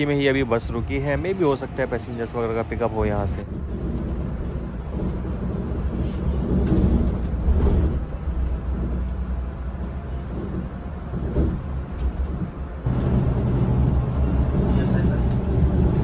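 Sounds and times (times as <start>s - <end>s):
bus engine and road drone: 0.0s - 16.0s.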